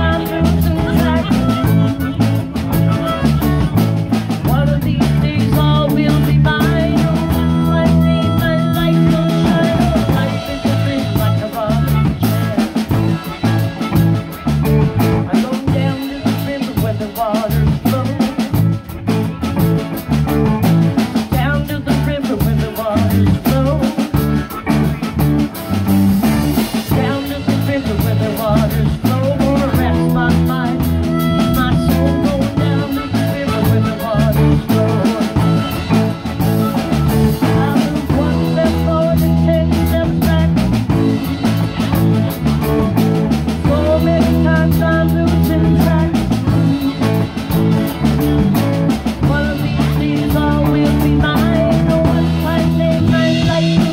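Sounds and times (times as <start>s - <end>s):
drum kit beat: 0.0s - 53.9s
guitars playing: 0.0s - 53.9s
harmonica through microphone: 0.0s - 53.9s.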